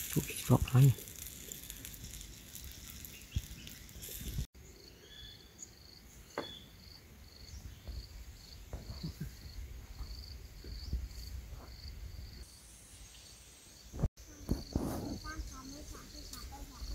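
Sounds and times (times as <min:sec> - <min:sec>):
insects chirping: 0:00.0 - 0:16.9.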